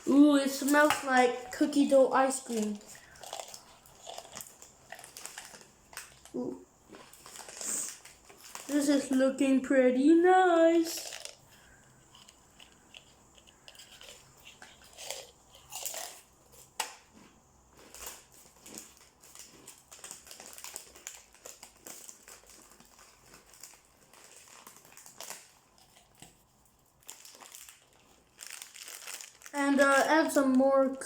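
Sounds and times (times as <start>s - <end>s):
rustling and scraping of dough: 0.0s - 9.5s, 10.9s - 31.0s.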